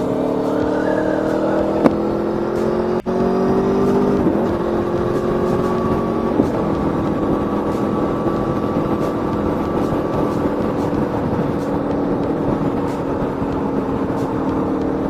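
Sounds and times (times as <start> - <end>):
motorcycle engine accelerating: 0.0 - 15.0
wind rush on microphone: 0.0 - 15.0.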